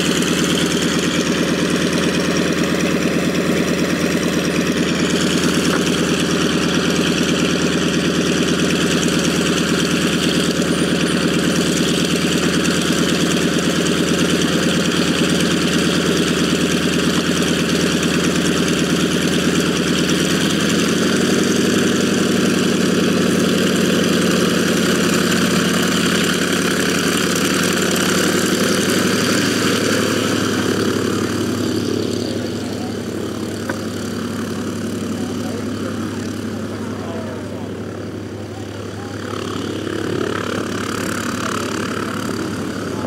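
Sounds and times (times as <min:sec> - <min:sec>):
propeller plane engine idling: 0:00.0 - 0:43.0.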